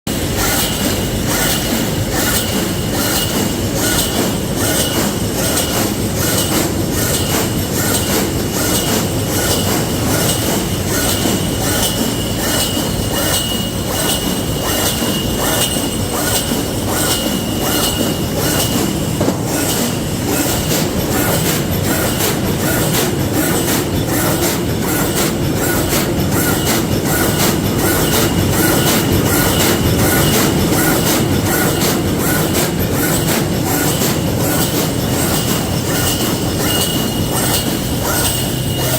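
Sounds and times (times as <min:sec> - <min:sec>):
wire mesh welding machine clatter: 0:00.1 - 0:38.9.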